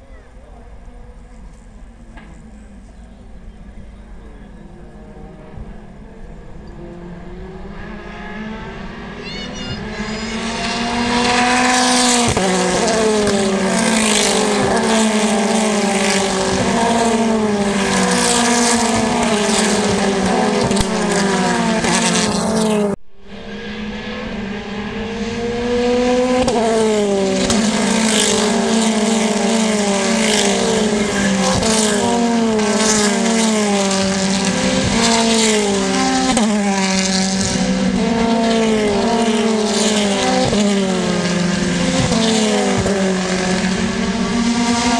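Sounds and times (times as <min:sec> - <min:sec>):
racing cars at full throttle: 0:00.0 - 0:44.9.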